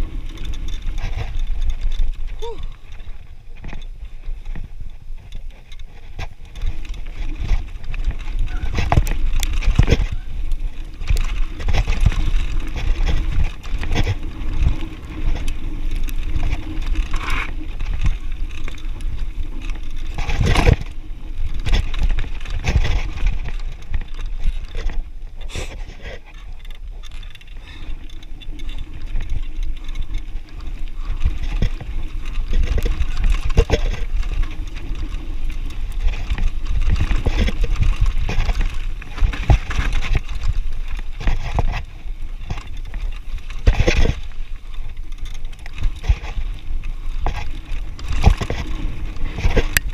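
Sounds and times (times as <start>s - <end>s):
bike rattling over bumps: 0.0s - 49.9s
bike tyres crunching over stones: 0.0s - 49.9s.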